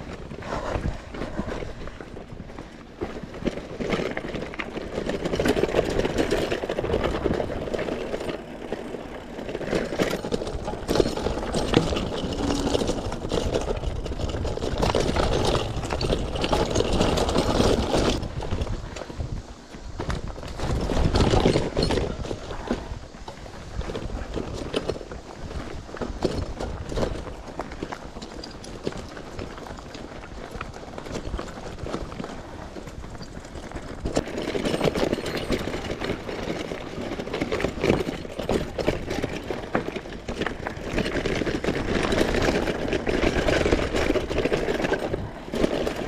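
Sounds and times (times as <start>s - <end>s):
bike rattling and clattering: 0.0s - 46.0s
bike tyres rolling on dirt: 0.0s - 46.0s.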